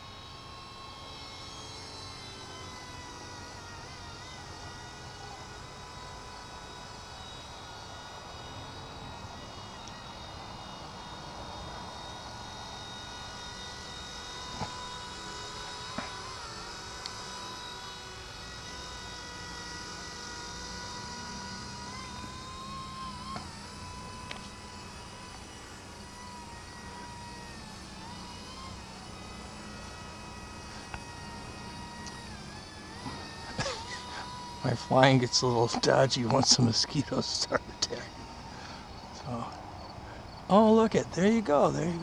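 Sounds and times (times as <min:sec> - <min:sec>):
rc helicopter high whine: 0:00.0 - 0:42.0.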